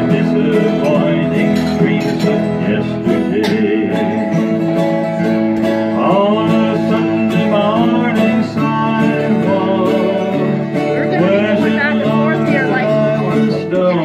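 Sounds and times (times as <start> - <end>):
acoustic guitar strumming: 0.0 - 14.0
man singing country song: 0.0 - 14.0.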